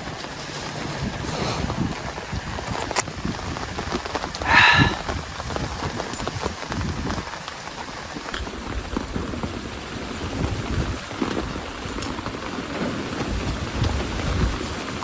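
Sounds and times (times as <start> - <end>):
heavy rain: 0.0 - 15.0
raindrops hitting close by: 0.0 - 15.0.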